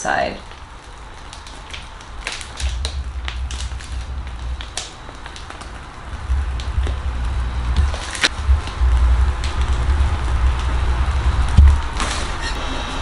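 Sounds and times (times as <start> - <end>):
plastic piping bag crinkling: 0.4 - 12.1
low rumble: 0.4 - 13.0.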